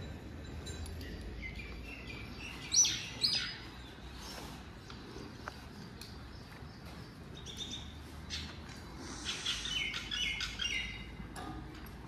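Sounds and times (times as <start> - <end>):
small birds chirping: 0.5 - 11.4.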